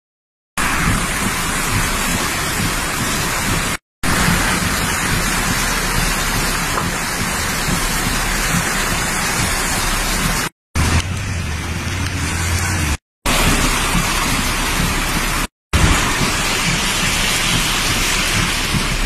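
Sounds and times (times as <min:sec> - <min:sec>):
floodwater rushing over road: 0:00.6 - 0:19.0.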